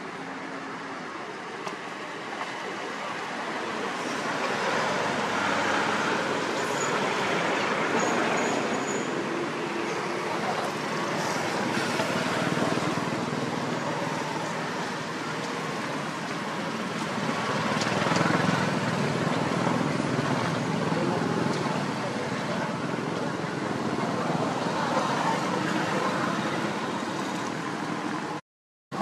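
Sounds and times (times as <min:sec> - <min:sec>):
outdoor background rush: 0:00.0 - 0:29.0.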